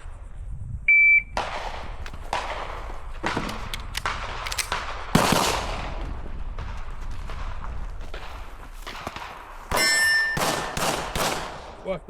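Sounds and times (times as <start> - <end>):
pistol shots with echo: 1.3 - 6.5, 7.2 - 11.9.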